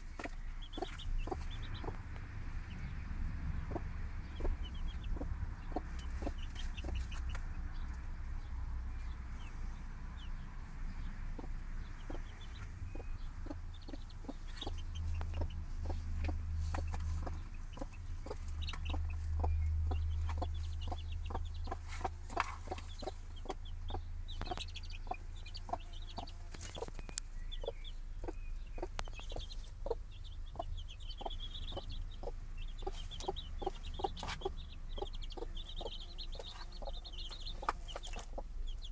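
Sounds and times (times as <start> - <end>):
chicks peeping: 0.0 - 38.9
hen clucking softly: 3.7 - 7.5, 11.3 - 38.9.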